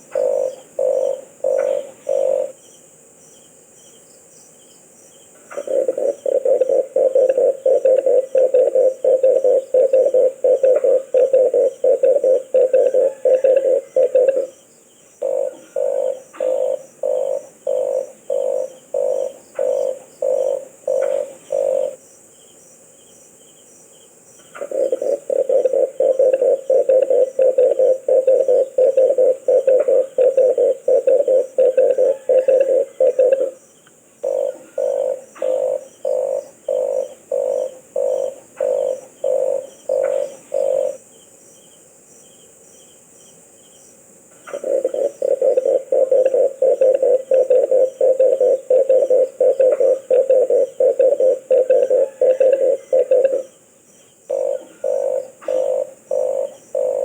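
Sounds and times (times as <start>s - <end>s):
dove cooing: 0.0s - 2.6s, 5.4s - 14.6s, 15.2s - 22.0s, 24.4s - 33.6s, 34.2s - 41.0s, 44.4s - 53.6s, 54.3s - 57.0s.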